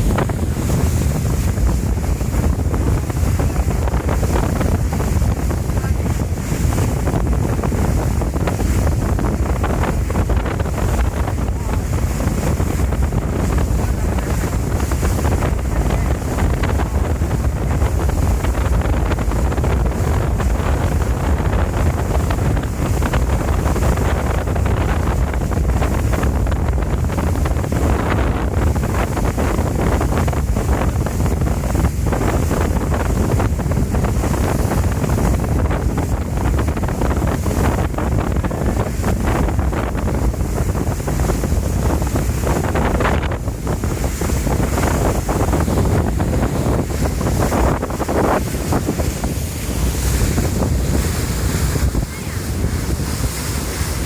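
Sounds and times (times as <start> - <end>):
boat rumbling on water: 0.0 - 54.0
wind buffeting microphone: 0.0 - 54.0.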